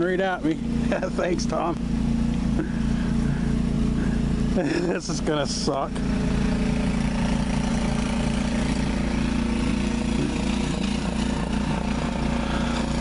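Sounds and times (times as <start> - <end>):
snowblower engine running: 0.0 - 13.0.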